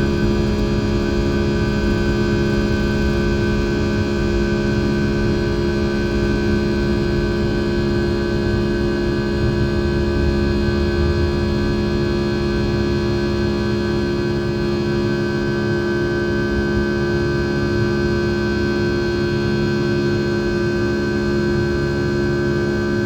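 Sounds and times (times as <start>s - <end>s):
jet engines heard from cabin: 0.0s - 23.0s.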